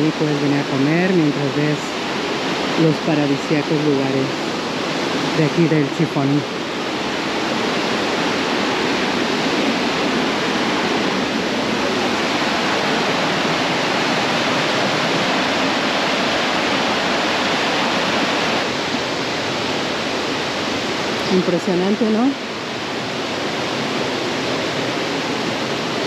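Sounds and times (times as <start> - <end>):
river rushing over rocks: 0.0 - 26.0.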